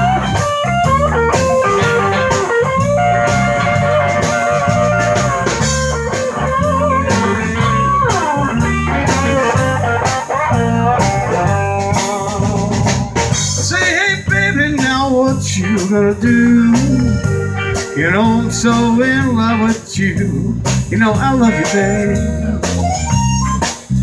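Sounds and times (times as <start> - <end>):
bending lead line: 0.0 - 24.0
live blues band playing: 0.0 - 24.0.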